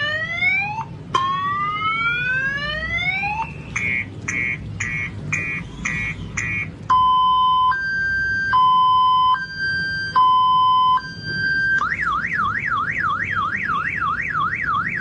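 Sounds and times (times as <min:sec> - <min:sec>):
electronic alarm siren: 0:00.0 - 0:15.0.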